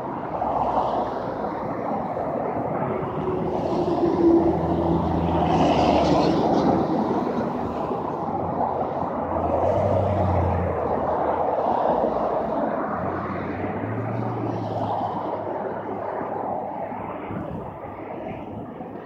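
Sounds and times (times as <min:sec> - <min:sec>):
vehicle engines humming: 0:00.0 - 0:19.0.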